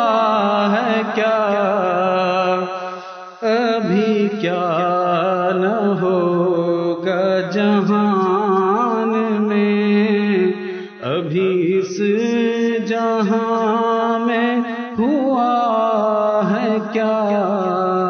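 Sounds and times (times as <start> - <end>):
man singing long wavering notes: 3.4 - 18.0.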